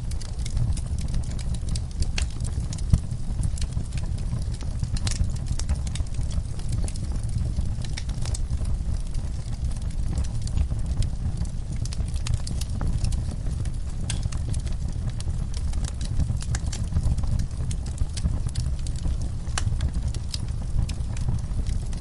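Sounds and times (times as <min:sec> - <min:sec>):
fireplace crackling and popping: 0:00.0 - 0:22.0.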